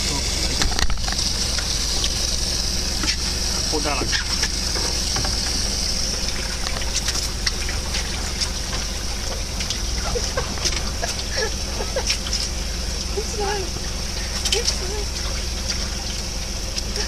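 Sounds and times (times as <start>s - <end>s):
low constant hum: 0.0s - 17.0s
water trickling: 0.0s - 17.0s.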